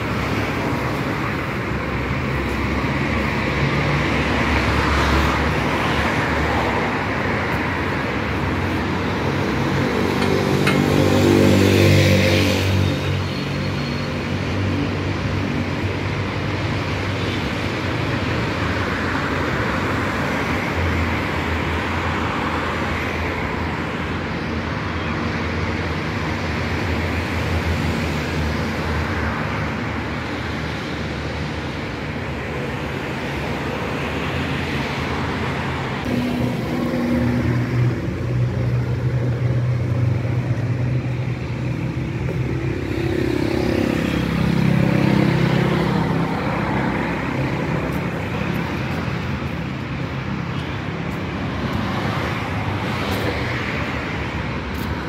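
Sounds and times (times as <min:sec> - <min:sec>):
cars driving by: 0:00.0 - 0:55.0.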